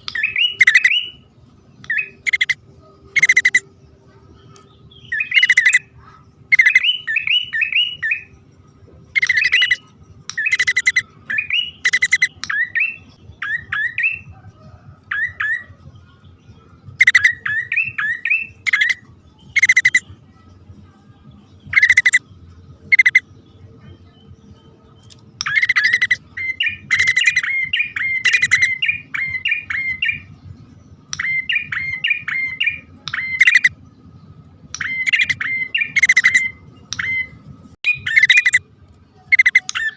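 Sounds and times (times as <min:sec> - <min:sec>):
birds chattering and chirping: 0:00.0 - 0:39.9.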